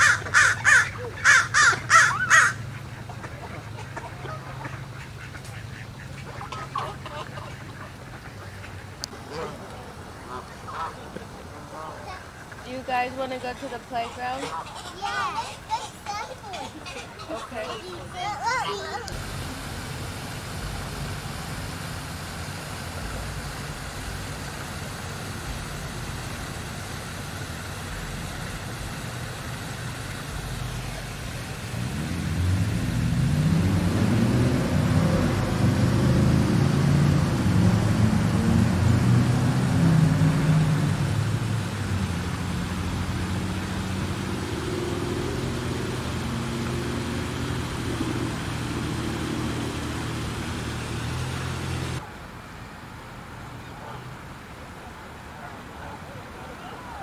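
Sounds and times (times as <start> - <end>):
vehicle engine running: 0.0 - 52.1.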